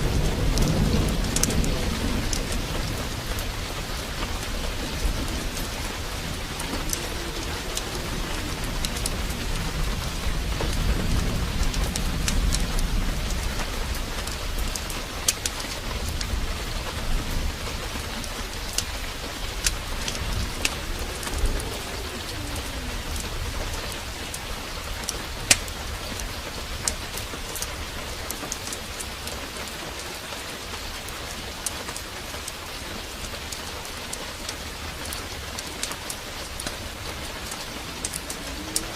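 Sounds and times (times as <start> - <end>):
fireplace fire crackling: 0.0 - 38.9
heavy rain pouring: 0.0 - 38.9
thunder rumbling: 0.0 - 38.9.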